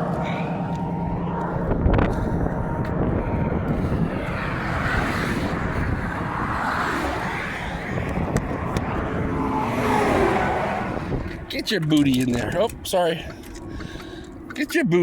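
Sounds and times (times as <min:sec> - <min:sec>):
traffic road roar: 0:00.0 - 0:15.0.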